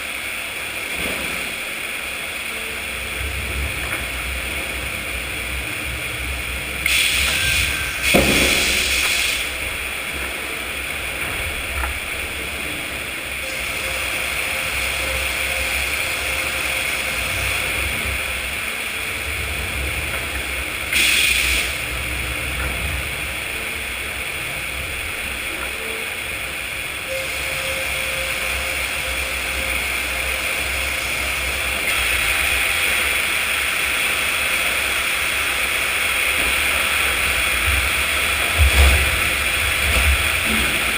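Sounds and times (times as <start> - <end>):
high-pitched noise bursts: 0.0 - 40.0
sawmill machinery rumbling: 0.0 - 40.9.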